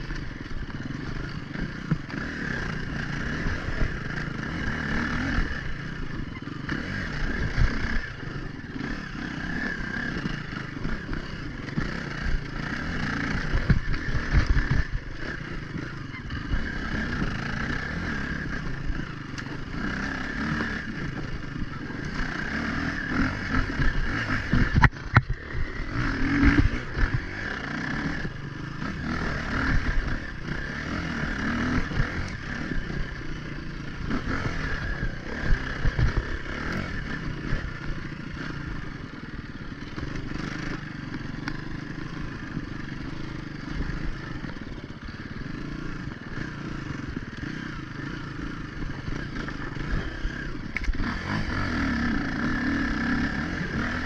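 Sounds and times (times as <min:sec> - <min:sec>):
bike rattling: 0:00.0 - 0:54.0
dirt bike engine revving: 0:00.0 - 0:54.0.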